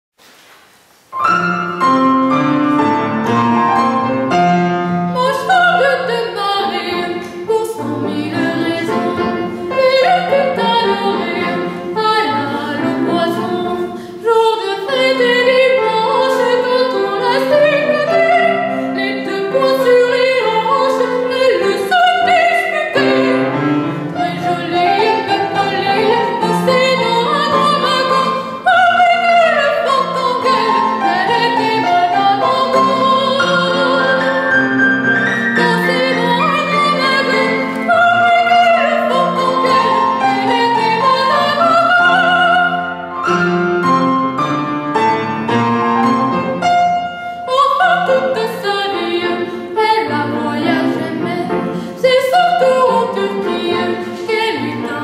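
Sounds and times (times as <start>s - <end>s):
piano accompaniment: 1.1s - 55.0s
woman singing opera: 5.1s - 34.5s, 35.5s - 43.0s, 47.3s - 55.0s.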